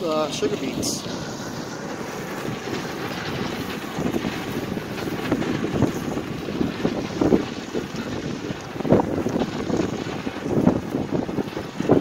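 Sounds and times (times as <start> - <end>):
machine running noise: 0.0 - 12.0
trucks running: 0.0 - 12.0
wind blowing across microphone: 0.0 - 12.0.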